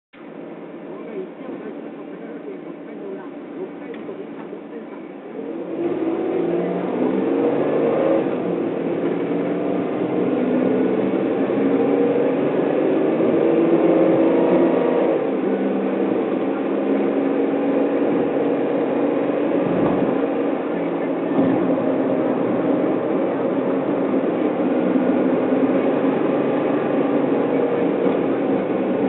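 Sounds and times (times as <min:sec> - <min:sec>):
car engine accelerating: 0:05.2 - 0:29.0.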